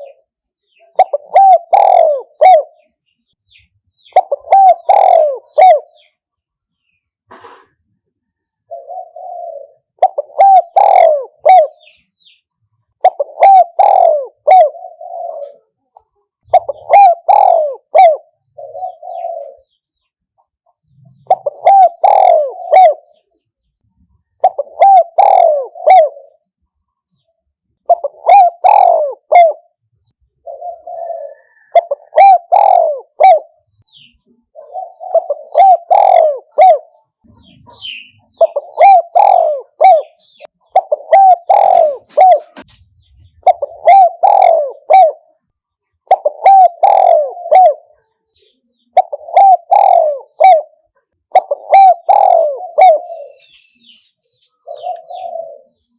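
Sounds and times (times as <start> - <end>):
dove cooing: 0.0 - 2.9, 3.9 - 6.2, 8.6 - 12.1, 12.9 - 15.8, 16.4 - 19.8, 20.8 - 23.3, 24.2 - 26.5, 27.8 - 48.1, 48.8 - 55.9.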